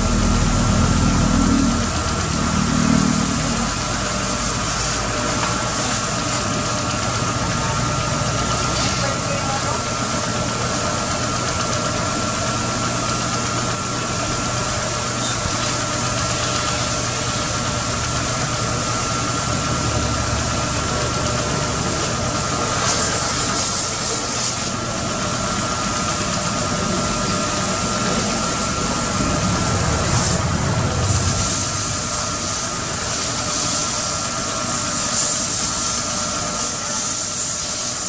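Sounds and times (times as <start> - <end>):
pressure washer whining: 0.0 - 38.0
water jet hissing: 0.0 - 38.0.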